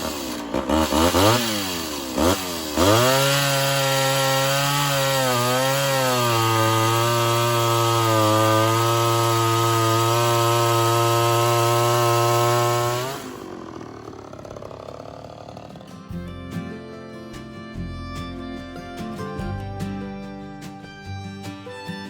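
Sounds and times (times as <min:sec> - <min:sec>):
chainsaw cutting wood: 0:00.0 - 0:18.8.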